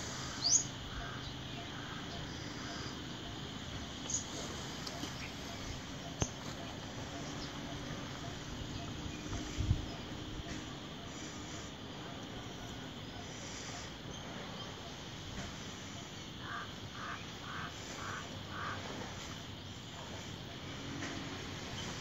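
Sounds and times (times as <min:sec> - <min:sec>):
bird calling: 0:00.0 - 0:22.0
steady outdoor hiss: 0:00.0 - 0:22.0.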